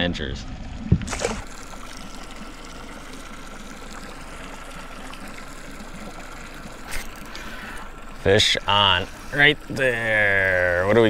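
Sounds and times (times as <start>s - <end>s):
water lapping against boat hull: 0.5s - 11.0s.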